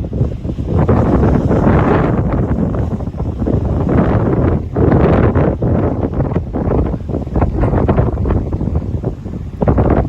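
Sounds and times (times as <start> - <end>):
gusting wind buffeting microphone: 0.0 - 10.0.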